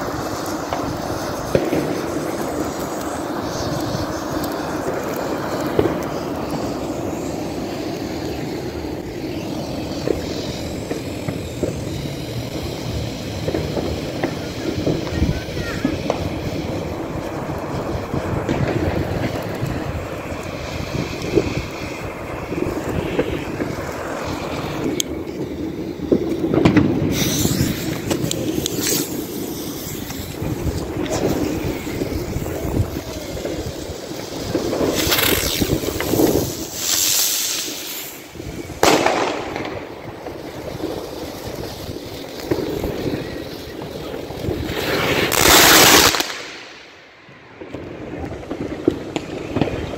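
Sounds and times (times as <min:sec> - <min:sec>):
continuous rushing noise: 0:00.0 - 0:49.9
firework hissing bursts: 0:00.0 - 0:49.9.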